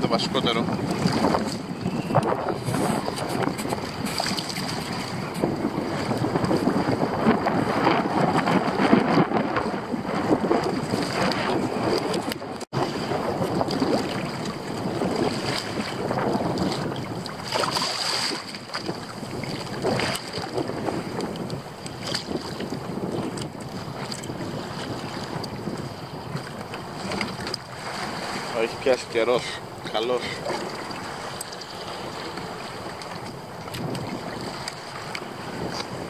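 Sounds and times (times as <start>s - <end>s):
water slapping kayak hull: 0.0s - 36.0s
wind buffeting microphone: 0.0s - 36.0s.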